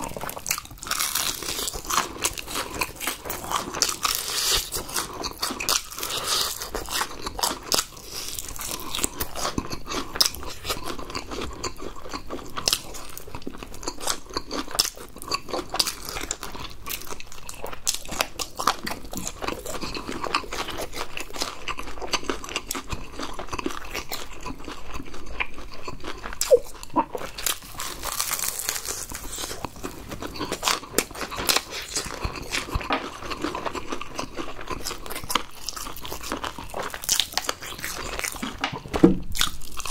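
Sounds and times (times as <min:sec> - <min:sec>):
crunching crispy fried chicken: 0:00.0 - 0:39.9.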